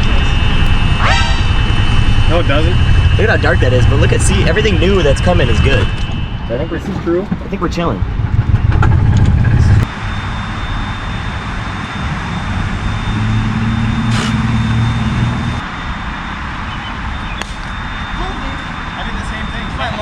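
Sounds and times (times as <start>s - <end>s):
rushing wind: 0.0s - 20.0s
vehicle engine running: 0.0s - 20.0s.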